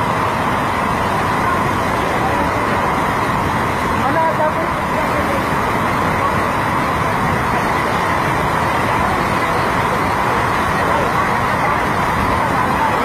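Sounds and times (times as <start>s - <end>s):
rushing floodwater roar: 0.0s - 13.0s.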